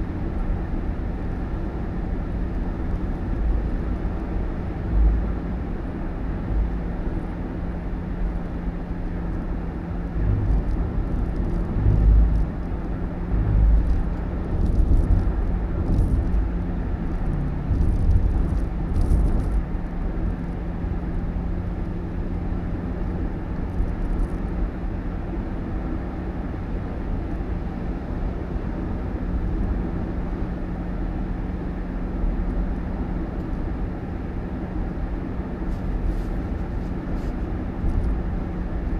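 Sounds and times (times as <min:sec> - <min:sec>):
motor vehicle engine rumble: 0:00.0 - 0:38.9.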